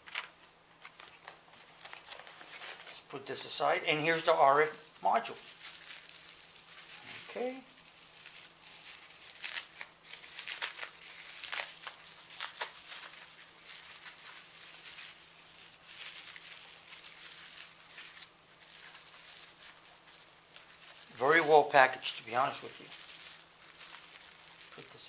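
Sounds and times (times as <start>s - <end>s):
bubble wrap crinkling and crackling: 0.0s - 25.0s.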